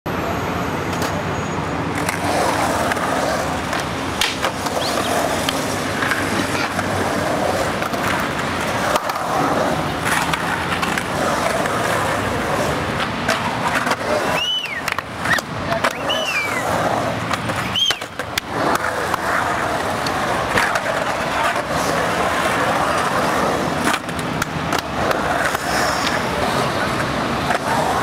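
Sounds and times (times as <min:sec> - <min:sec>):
skateboard wheels rumbling: 0:01.8 - 0:28.0
skateboard clacks: 0:01.9 - 0:28.0.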